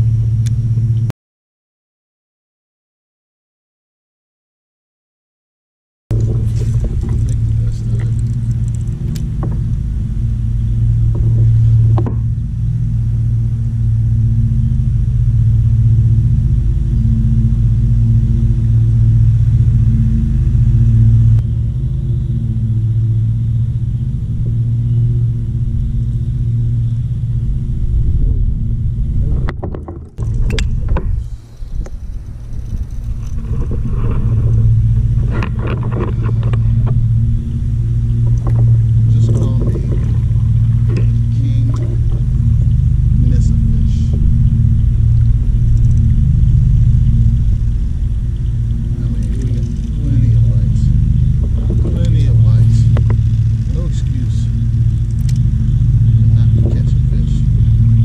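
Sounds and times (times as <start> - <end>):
steady low motor hum: 0.0 - 1.1, 6.1 - 58.0.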